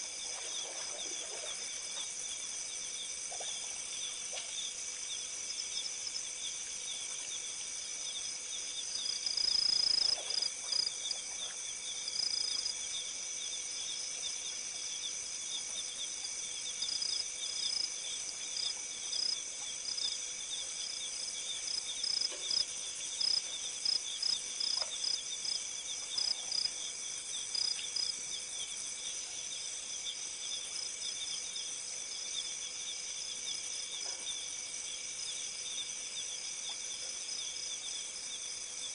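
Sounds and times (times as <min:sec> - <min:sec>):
faint steady hum: 0:00.0 - 0:38.9
insect chirping: 0:00.0 - 0:38.9
insects trilling: 0:00.0 - 0:38.9.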